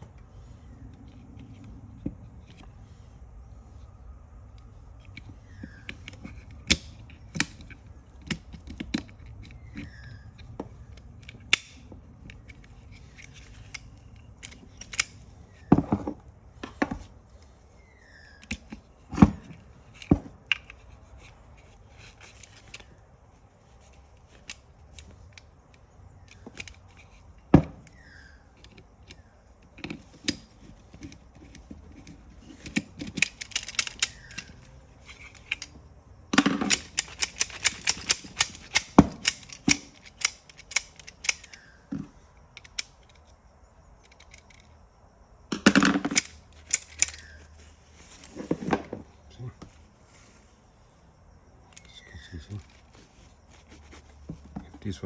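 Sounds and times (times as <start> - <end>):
clicks and knocks of handled parts: 0.0 - 49.9, 51.6 - 55.0.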